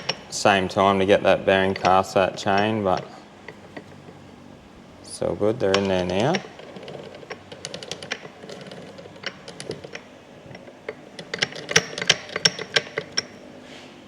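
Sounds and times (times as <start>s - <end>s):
metal parts clicking and tapping: 0.0s - 13.6s.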